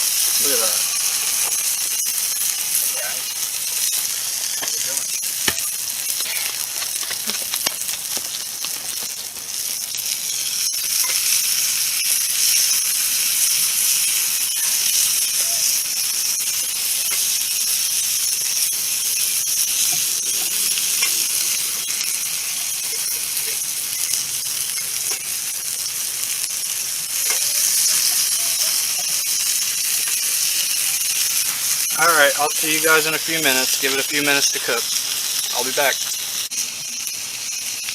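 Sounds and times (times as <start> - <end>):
fire pops and crackles: 0.0 - 37.9
patty sizzling in frying pan: 0.0 - 37.9.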